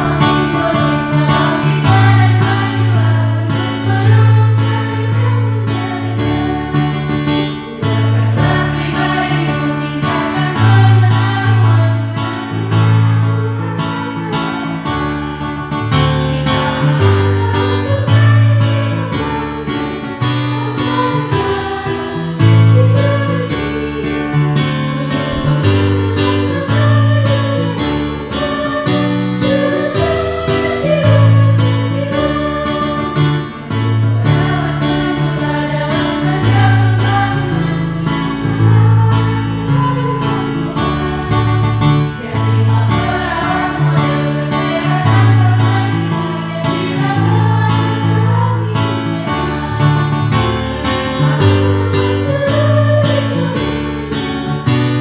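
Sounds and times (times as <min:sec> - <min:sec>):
choir singing: 0:00.0 - 0:55.0
keyboard bass notes: 0:00.0 - 0:55.0.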